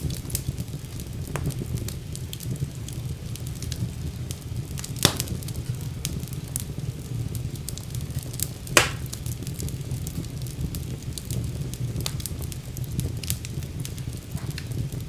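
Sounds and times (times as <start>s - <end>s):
fire crackles: 0.0s - 15.0s
loud sharp pops of fire: 0.0s - 15.0s
rumble of fire flames: 0.0s - 15.0s.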